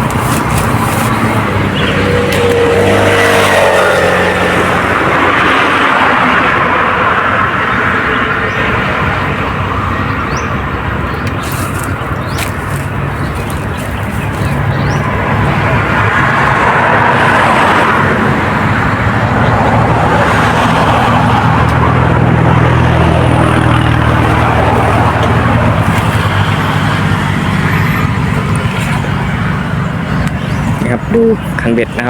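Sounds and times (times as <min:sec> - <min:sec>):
steady engine hum: 0:00.0 - 0:32.0
traffic rushing noise: 0:00.0 - 0:32.0.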